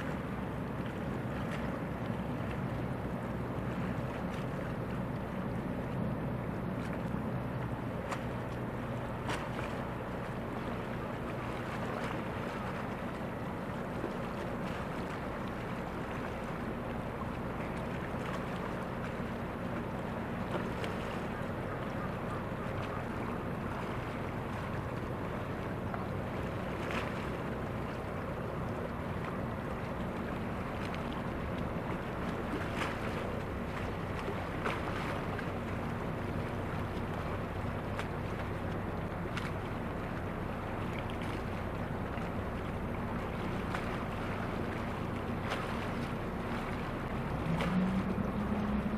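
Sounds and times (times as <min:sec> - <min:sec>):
ship diesel engines humming: 0:00.0 - 0:48.9
water wash: 0:00.0 - 0:48.9.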